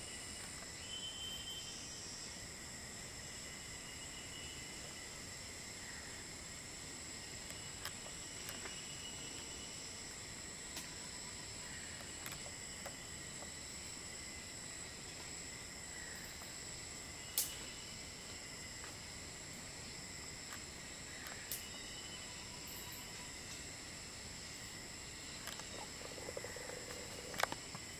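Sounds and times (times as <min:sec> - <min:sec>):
insect chorus droning: 0:00.0 - 0:27.9.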